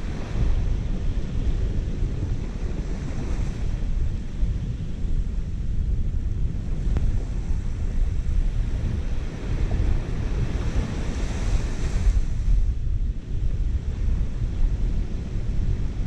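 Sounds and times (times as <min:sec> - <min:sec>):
small waves washing on beach: 0:00.0 - 0:16.0
wind buffeting microphone: 0:00.0 - 0:16.0.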